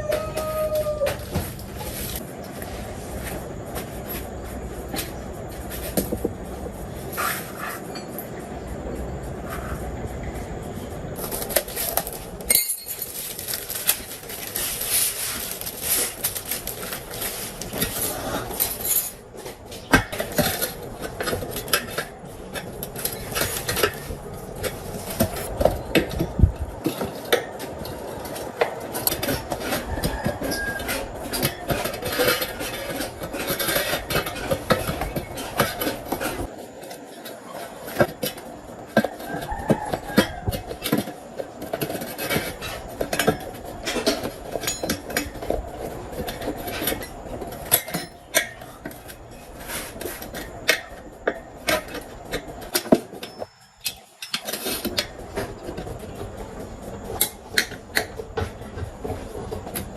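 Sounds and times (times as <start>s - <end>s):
metal tools clinking and scraping: 6.9s - 10.5s, 11.2s - 59.9s.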